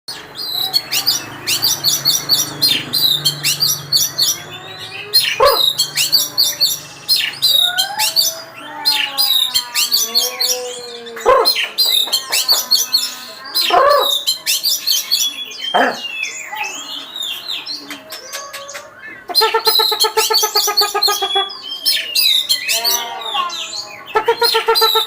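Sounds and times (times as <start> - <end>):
bird singing chirps and trills: 0.1 - 25.0.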